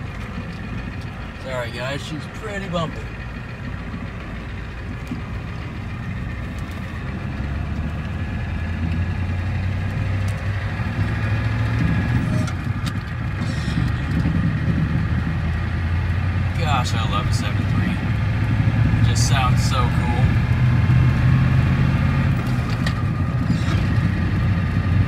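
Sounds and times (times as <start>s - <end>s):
diesel engine pulling truck: 0.0s - 25.0s
knocks and rattles from rough ride: 0.0s - 25.0s.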